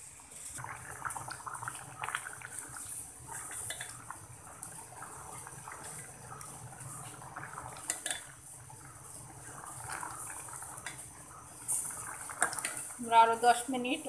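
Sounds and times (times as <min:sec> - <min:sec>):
gravy sloshing: 0:00.6 - 0:13.7.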